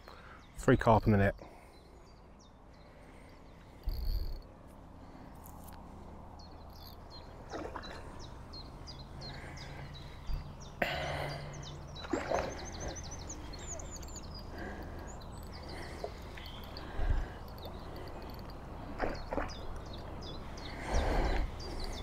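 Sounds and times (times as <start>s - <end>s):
lakeside ambience: 0.0s - 22.0s
songbird singing: 0.0s - 22.0s.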